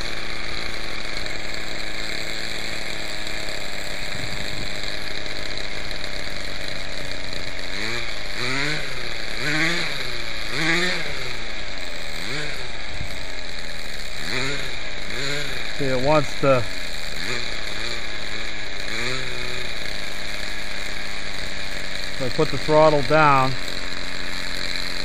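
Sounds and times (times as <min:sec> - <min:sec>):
model helicopter engine running: 0:00.0 - 0:25.0.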